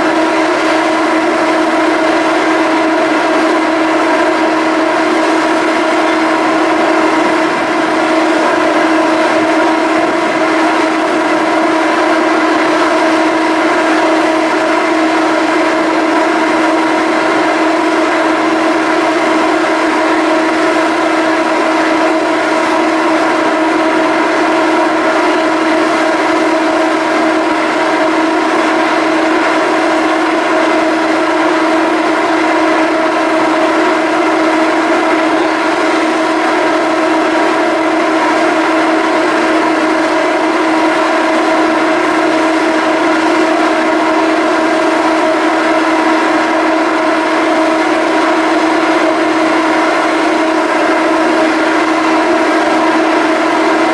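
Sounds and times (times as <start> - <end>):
ferry machinery drone: 0.0 - 53.9.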